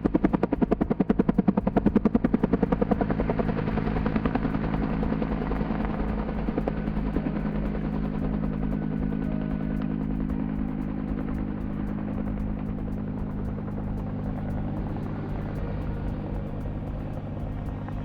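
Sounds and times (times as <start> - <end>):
helicopter engine drone: 0.0 - 18.0
helicopter rotor beating: 0.0 - 18.0.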